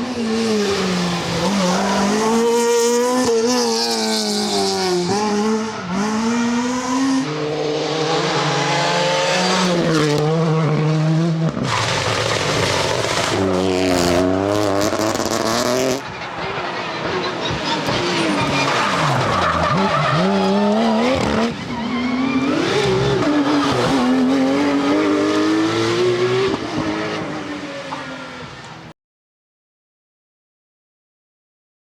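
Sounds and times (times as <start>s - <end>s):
rally car engines revving: 0.0s - 28.9s.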